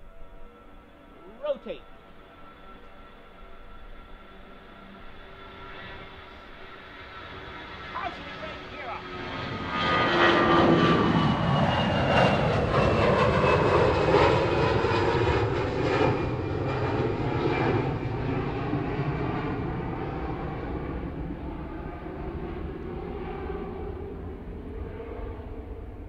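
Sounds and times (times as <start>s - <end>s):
jet airliner engines climbing: 0.0s - 26.0s
jet engine whine: 0.0s - 26.0s.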